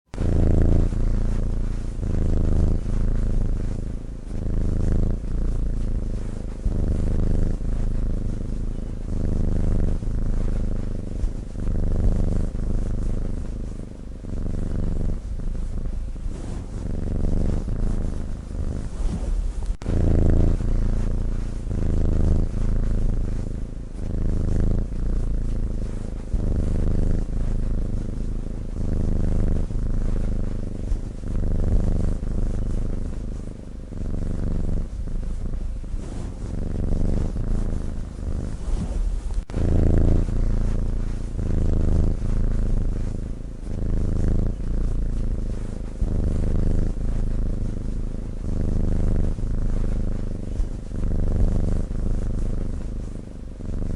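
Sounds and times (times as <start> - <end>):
cat's buzzing breath rumble: 0.0 - 53.9.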